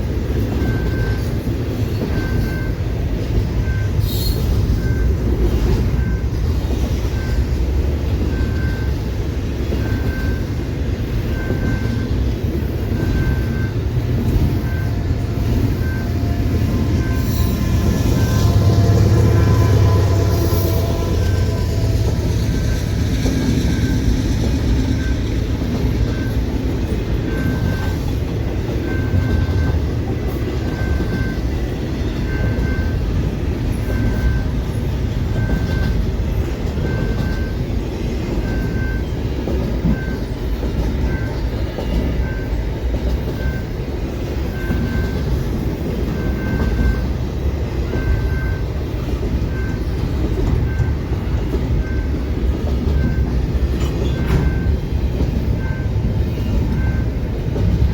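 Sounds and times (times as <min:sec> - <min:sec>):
crossing bell ringing: 0:00.0 - 0:57.9
train rumbling over rails: 0:00.0 - 0:57.9.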